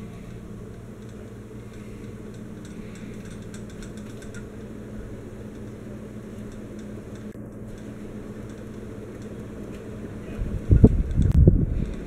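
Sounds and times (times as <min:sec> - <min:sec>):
ceiling fan hum and air rush: 0:00.0 - 0:12.0.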